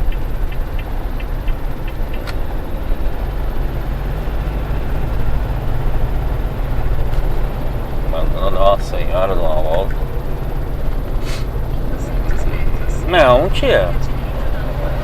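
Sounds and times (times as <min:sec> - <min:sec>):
light evenly spaced ticks: 0:00.0 - 0:15.0
road noise inside cab: 0:00.0 - 0:15.0
vehicle engine drone: 0:00.0 - 0:15.0.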